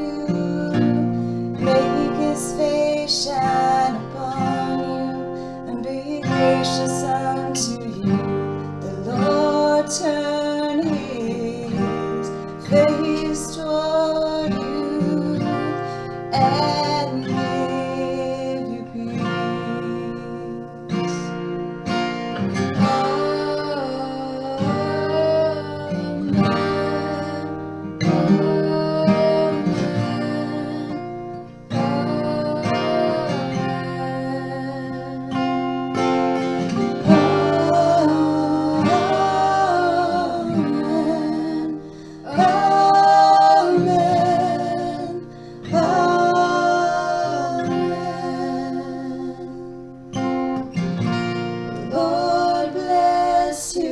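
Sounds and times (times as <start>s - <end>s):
person singing: 0.0s - 21.6s, 22.4s - 53.9s
strummed acoustic guitar: 0.0s - 53.9s.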